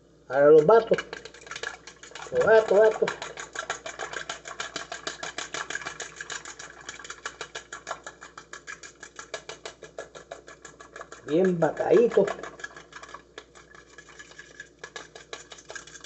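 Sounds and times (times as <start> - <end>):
utensil clicking against bowl: 0.8 - 16.0.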